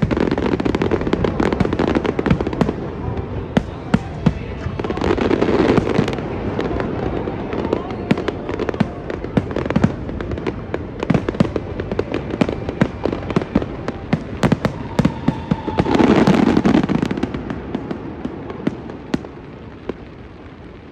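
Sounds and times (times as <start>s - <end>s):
fireworks cracking and banging: 0.0s - 20.9s.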